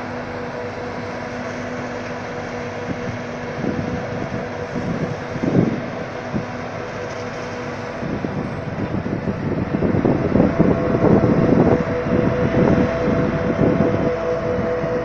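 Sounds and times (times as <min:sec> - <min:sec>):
farm machinery droning: 0:00.0 - 0:15.0.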